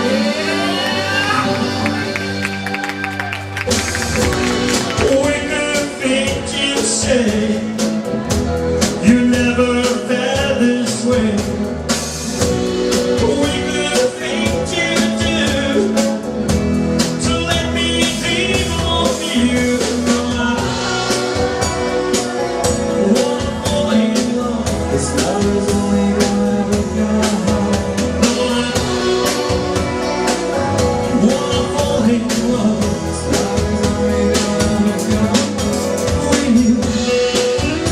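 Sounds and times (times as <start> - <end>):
drums: 0.0 - 37.9
rock and roll band playing: 0.0 - 37.9.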